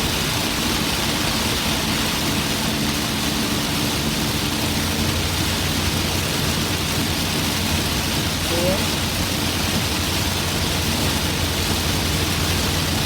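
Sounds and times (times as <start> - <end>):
heavy rain hissing: 0.0 - 13.0
tyre spray on wet road: 0.0 - 13.0.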